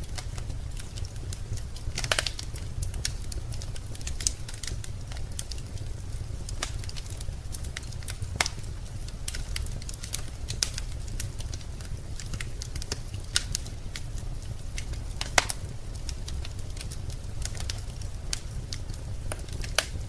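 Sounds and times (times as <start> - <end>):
fire low rumble: 0.0 - 20.0
wood fire crackling and popping: 0.0 - 20.0.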